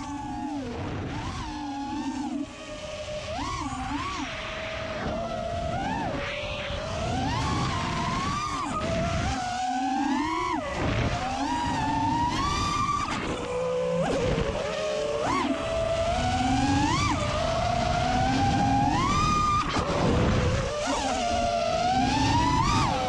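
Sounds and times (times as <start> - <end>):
drone motors and propellers whining: 0.0 - 23.0
low rush of wind: 0.0 - 23.0.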